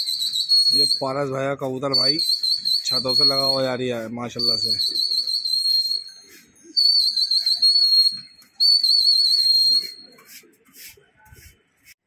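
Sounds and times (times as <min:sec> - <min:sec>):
trilling whistle blasts: 0:00.0 - 0:10.2.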